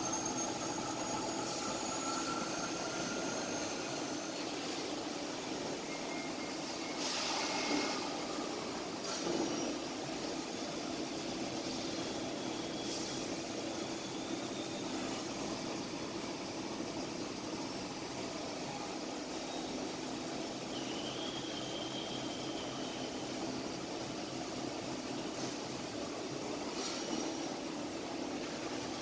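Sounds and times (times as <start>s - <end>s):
faint high whine: 0.0s - 11.0s, 11.6s - 27.3s.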